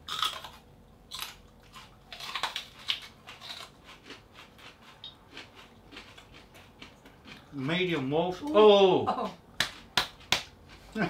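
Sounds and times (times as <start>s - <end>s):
chilli pods being chewed: 0.0s - 8.5s, 9.7s - 11.0s.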